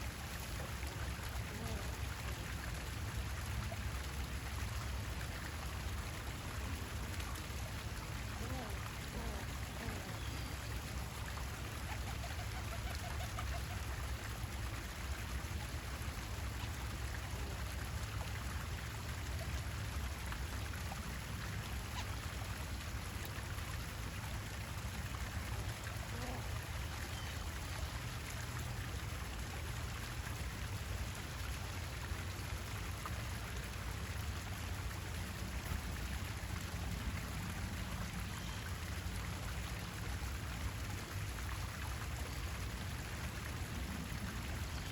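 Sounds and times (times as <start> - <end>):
running water trickling: 0.0 - 44.9.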